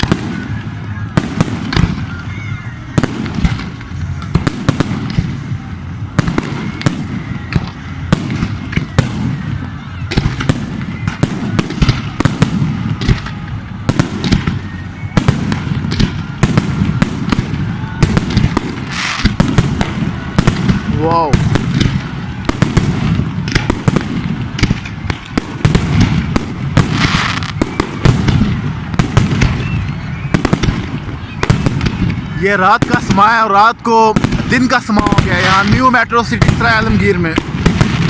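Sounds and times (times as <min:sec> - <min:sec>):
crackling of firework shells: 0:00.0 - 0:38.0
firework bangs: 0:00.0 - 0:38.0.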